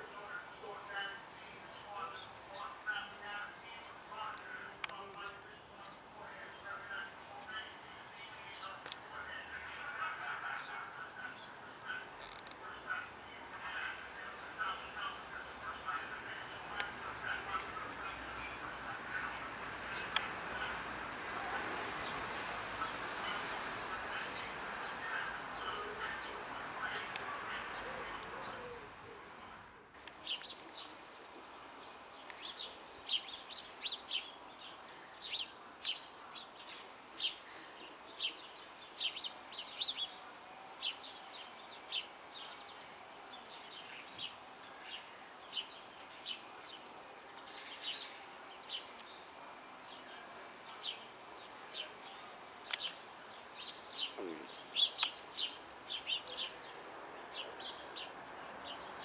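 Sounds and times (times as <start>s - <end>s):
faint outdoor hiss: 0.0s - 59.0s
small birds chirping: 0.2s - 28.9s, 30.0s - 59.0s.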